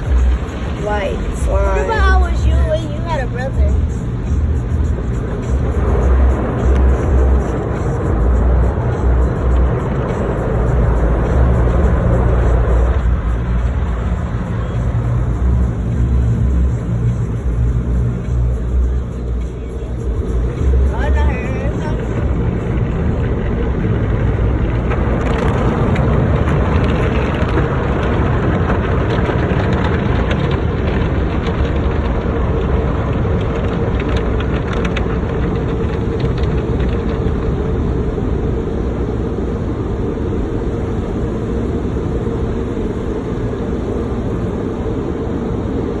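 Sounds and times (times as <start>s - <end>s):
car wash rushing noise: 0.0s - 46.0s
crackles: 0.0s - 46.0s.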